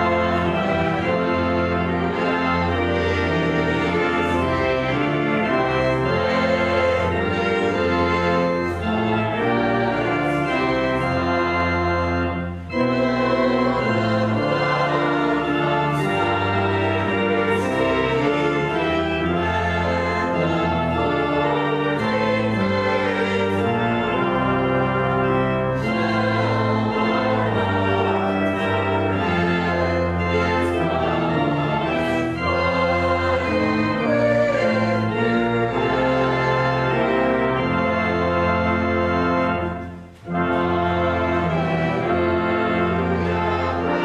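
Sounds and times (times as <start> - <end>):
church organ playing chords: 0.0 - 44.0.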